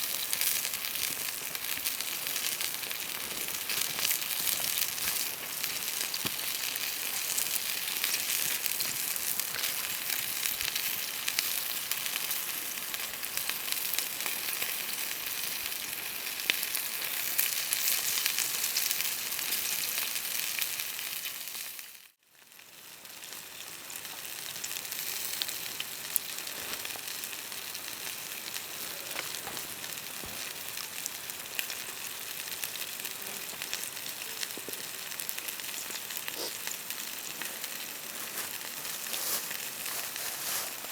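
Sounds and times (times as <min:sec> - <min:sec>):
food sizzling in a pan: 0:00.0 - 0:40.9.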